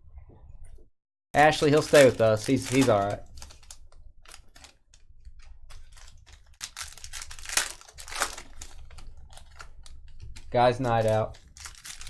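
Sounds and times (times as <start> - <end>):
plastic wrapping crinkling: 1.4 - 12.0
plastic wrapping ripping: 1.4 - 12.0.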